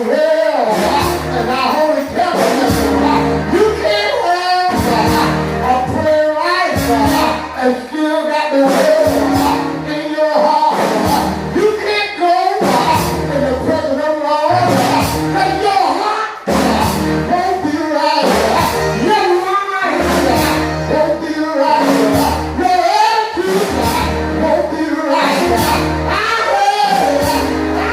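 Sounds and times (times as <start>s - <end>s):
gospel music with singing and band: 0.0s - 27.9s.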